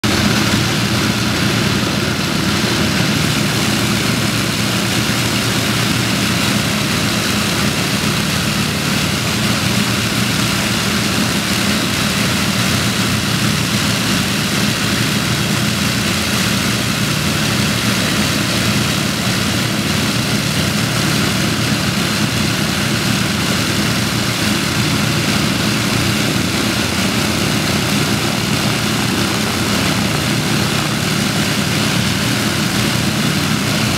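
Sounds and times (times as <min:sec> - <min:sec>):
propeller aircraft engines running: 0:00.0 - 0:33.9.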